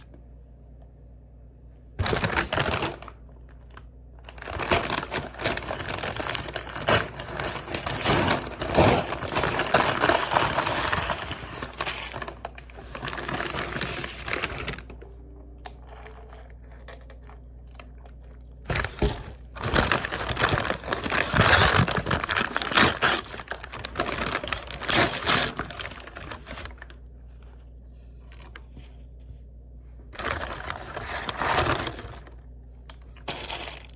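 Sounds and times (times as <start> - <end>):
paper packaging crinkling: 2.0 - 29.2, 30.1 - 33.9.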